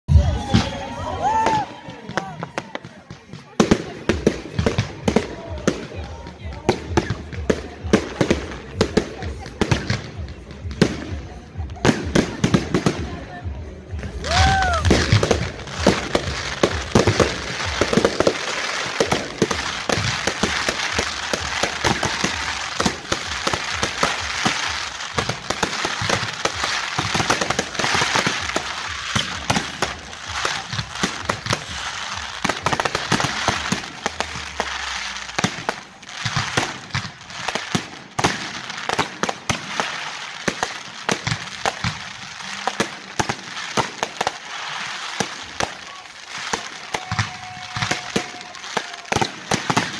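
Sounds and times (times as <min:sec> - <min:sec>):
fireworks crackling and banging: 0:00.1 - 0:49.9.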